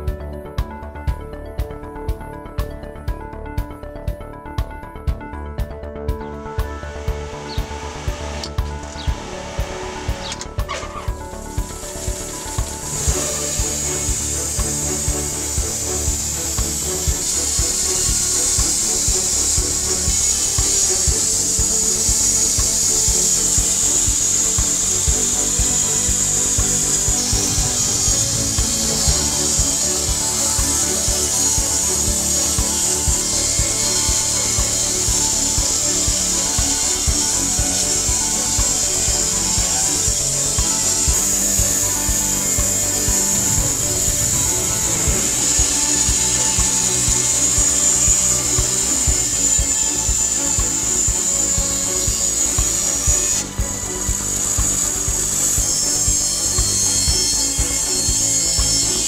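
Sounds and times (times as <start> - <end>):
background music with steady beat: 0.0 - 59.0
band saw cutting log: 7.4 - 59.0.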